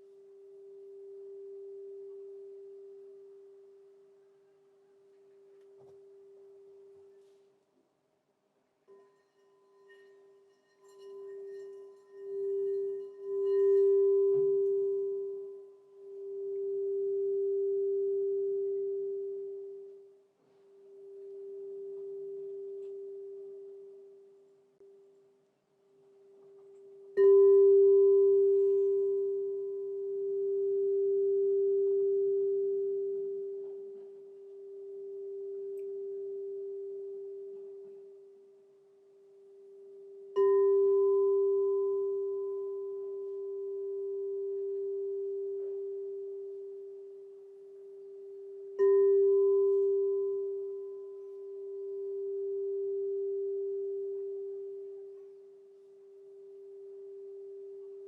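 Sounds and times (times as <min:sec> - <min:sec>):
singing bowl ringing: 0:00.0 - 0:04.1, 0:08.8 - 0:25.2, 0:26.3 - 0:58.0.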